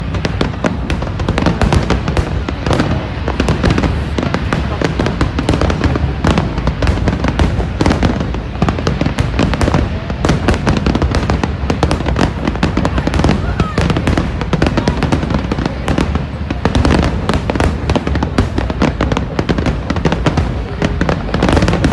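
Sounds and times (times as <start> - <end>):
fireworks bangs and crackles: 0.0 - 21.9.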